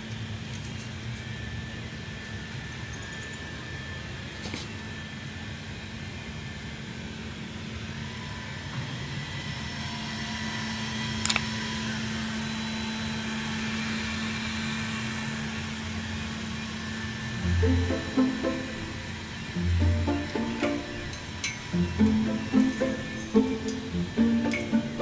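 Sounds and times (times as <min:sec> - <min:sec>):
mechanical hum and hiss: 0:00.0 - 0:25.0.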